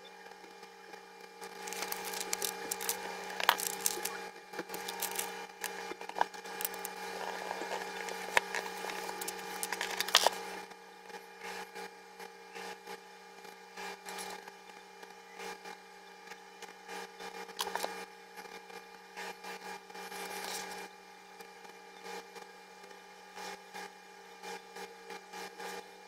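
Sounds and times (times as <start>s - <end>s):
steady low hum: 0.0s - 22.1s.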